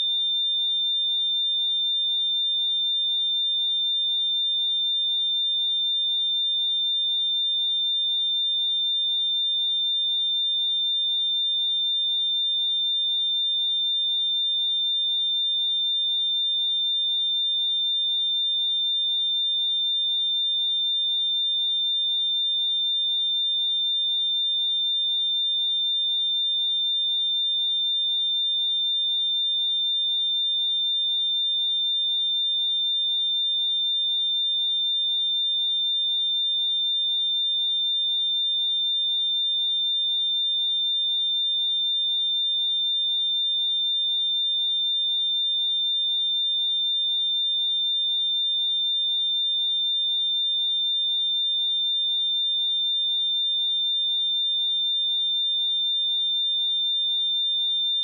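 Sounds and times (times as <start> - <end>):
high-pitched sine test tone: 0.0 - 58.0.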